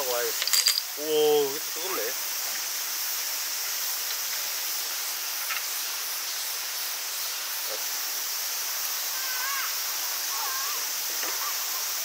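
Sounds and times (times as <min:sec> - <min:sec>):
high-pitched outdoor hiss: 0:00.0 - 0:12.0.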